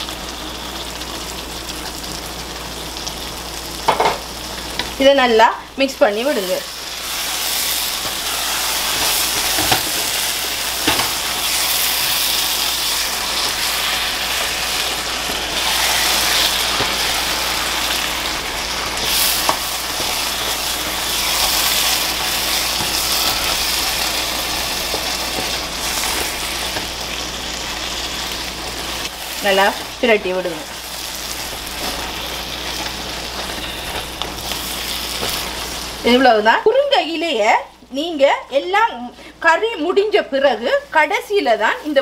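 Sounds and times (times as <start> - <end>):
curry sizzling in a pan: 0.0 - 42.0.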